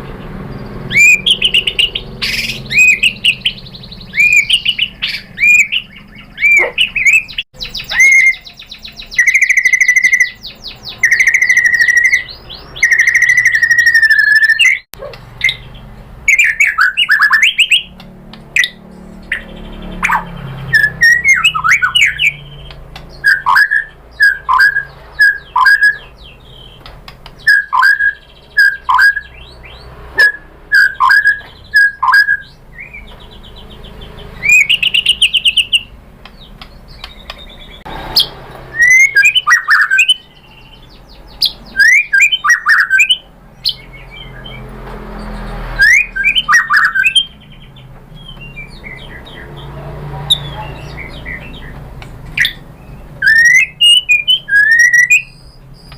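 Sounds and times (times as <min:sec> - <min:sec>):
songbird singing whistles and trills: 0:00.5 - 0:55.9.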